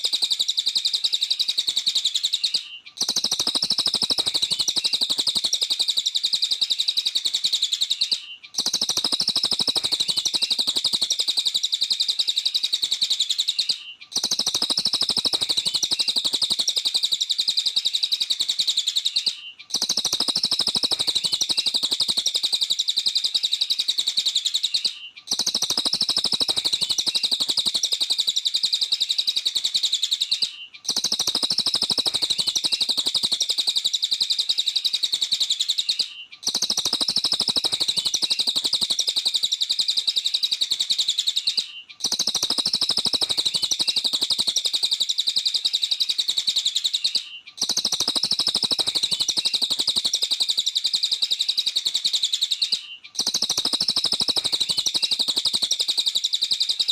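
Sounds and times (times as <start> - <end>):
songbird chattering song: 0.0 - 56.9.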